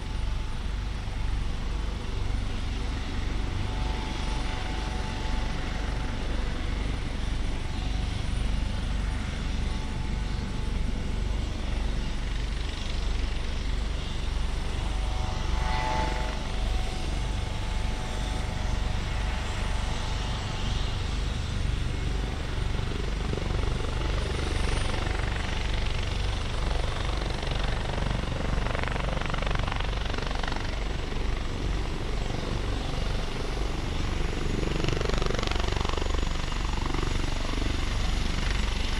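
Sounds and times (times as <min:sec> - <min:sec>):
helicopter rotor beat: 0:00.0 - 0:38.9
turbine whine: 0:00.0 - 0:38.9.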